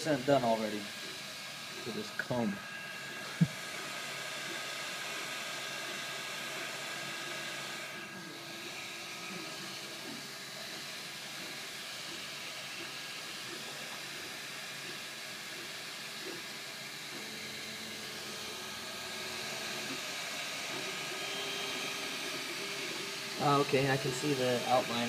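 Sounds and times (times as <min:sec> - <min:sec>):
cooling fans whirring: 0:00.0 - 0:25.0
stepper motors whining: 0:00.0 - 0:25.0.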